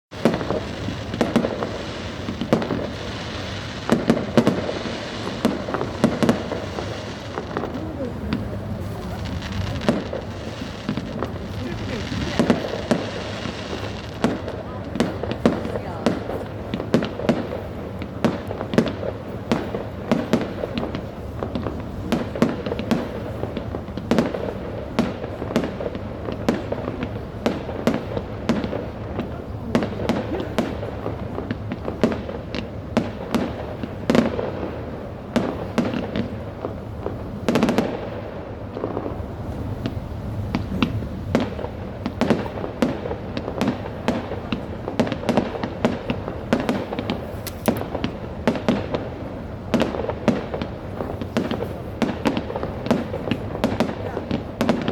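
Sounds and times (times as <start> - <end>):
crackling firework burst: 0.1 - 54.9
fireworks popping and banging: 0.1 - 54.9.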